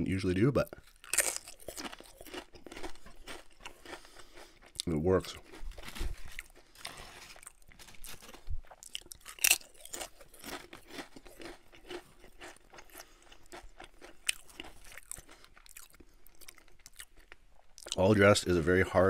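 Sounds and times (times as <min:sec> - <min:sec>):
crunching and chewing potato chips: 0:00.3 - 0:18.1.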